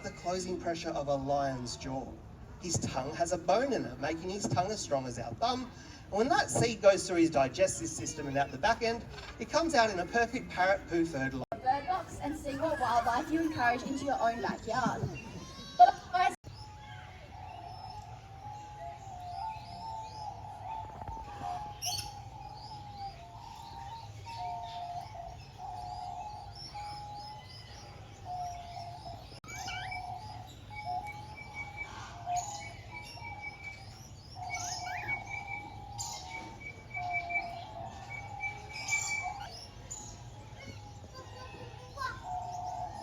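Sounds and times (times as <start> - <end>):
birds chirping and calling: 0.0 - 43.0.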